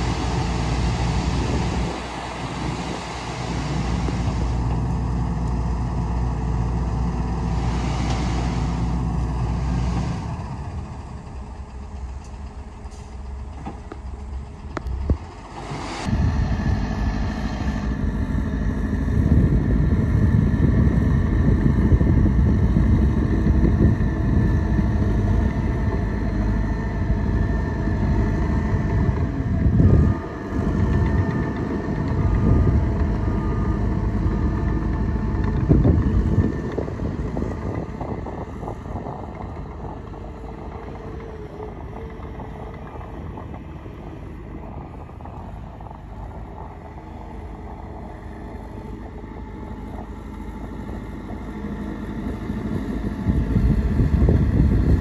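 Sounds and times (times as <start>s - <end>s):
heavy diesel machinery engines: 0.0s - 55.0s.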